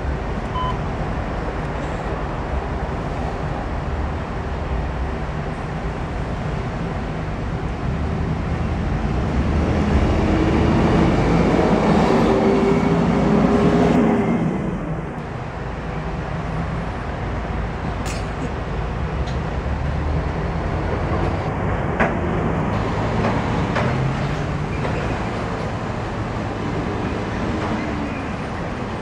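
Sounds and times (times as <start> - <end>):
street traffic rumble: 0.0 - 29.0.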